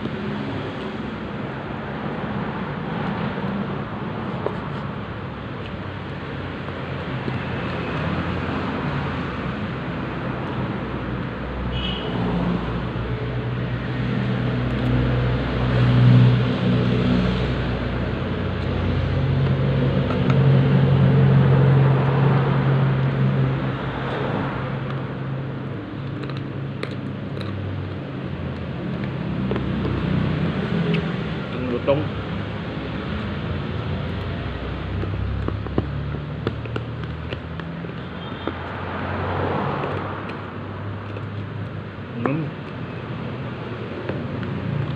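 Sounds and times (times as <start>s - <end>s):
road traffic with engines running: 0.0s - 44.9s.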